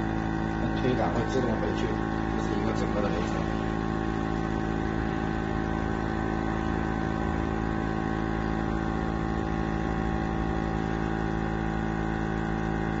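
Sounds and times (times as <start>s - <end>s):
vacuum pump humming: 0.0s - 13.0s.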